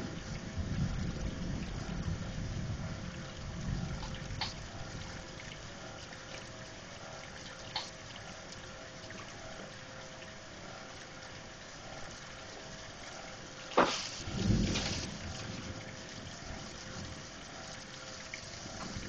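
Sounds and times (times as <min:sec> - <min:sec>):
steady rain: 0:00.0 - 0:19.0
water pouring off roof: 0:00.0 - 0:19.0.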